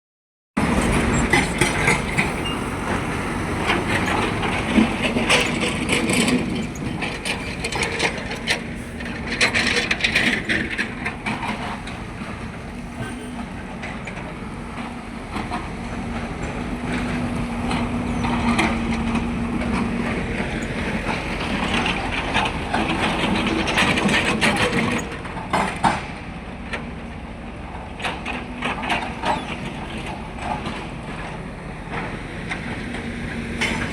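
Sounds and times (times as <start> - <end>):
machinery clanking and scraping: 0.6 - 26.8, 27.7 - 33.9
heavy machinery engine drone: 0.6 - 33.9.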